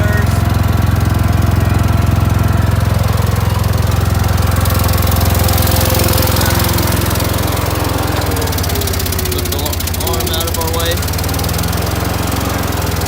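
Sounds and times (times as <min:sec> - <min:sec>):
skid steer engine rumbling: 0:00.0 - 0:13.0.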